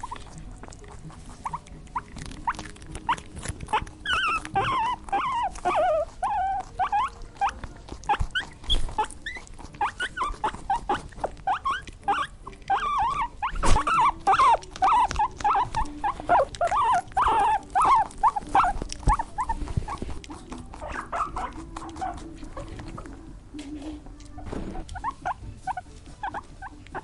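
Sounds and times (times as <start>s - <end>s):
small animal high squeaks: 1.4s - 23.1s, 24.3s - 27.0s.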